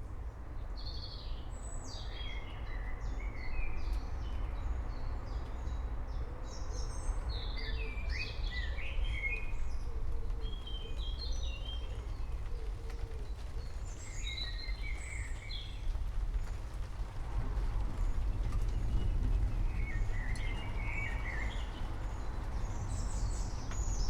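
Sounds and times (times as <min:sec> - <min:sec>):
low rumbling background noise: 0:00.0 - 0:24.0.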